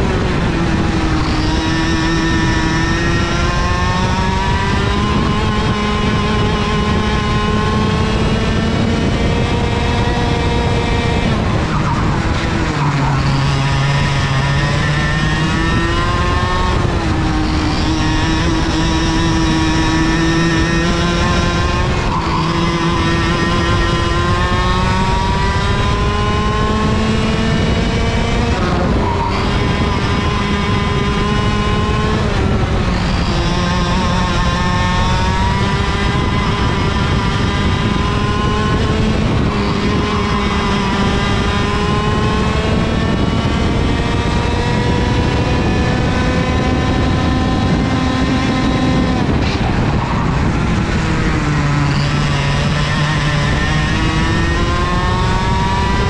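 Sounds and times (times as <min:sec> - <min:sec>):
kart engine at race pace: 0:00.0 - 0:56.0.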